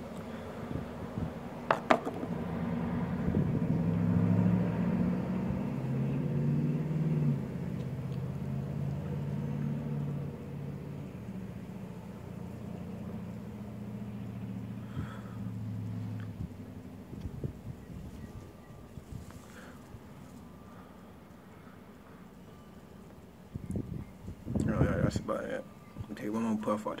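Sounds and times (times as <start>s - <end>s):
passing vehicle engine drone: 0.0s - 27.0s.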